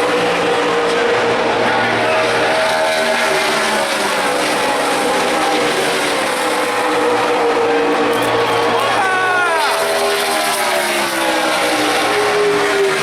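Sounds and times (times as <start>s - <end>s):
race cars roaring past: 0.0s - 13.0s.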